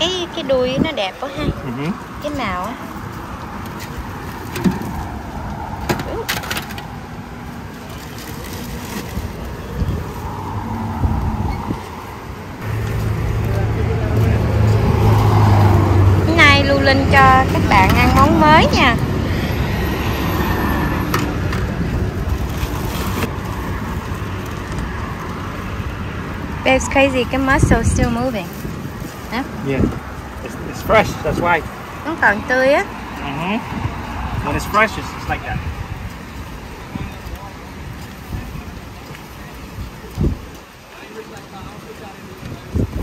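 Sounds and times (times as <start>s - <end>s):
road traffic rushing past: 0.0s - 43.0s
wind: 0.0s - 43.0s.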